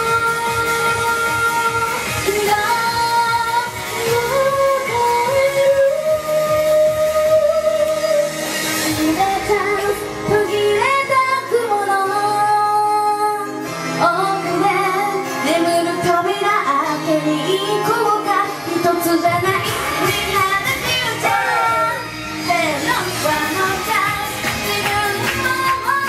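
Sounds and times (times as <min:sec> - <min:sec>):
pop accompaniment: 0:00.0 - 0:26.0
woman singing into microphone: 0:00.0 - 0:26.0.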